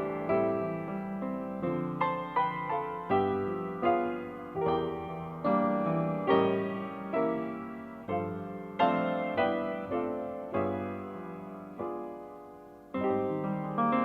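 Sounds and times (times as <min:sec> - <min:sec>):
slow solo piano: 0:00.0 - 0:14.0.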